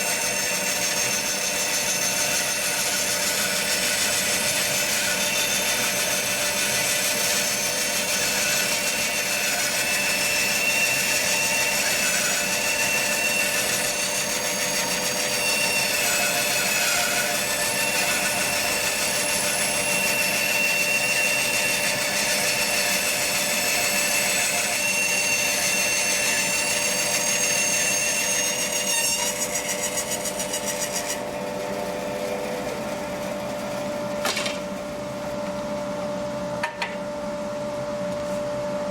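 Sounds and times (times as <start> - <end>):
bandsaw cutting wood: 0.0 - 34.7
bandsaw running: 0.0 - 34.9.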